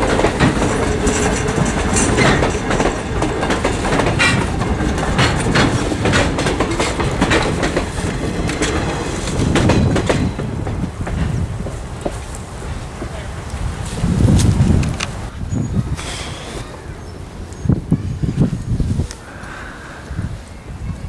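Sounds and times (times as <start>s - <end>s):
wheels clicking over rail joints: 0.0s - 19.6s
railroad cars rolling past: 0.0s - 21.0s.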